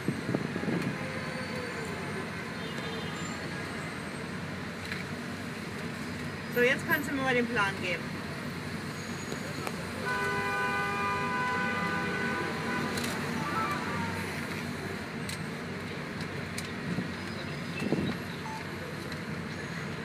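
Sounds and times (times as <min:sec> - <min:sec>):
idling car engines in traffic: 0:00.0 - 0:20.0.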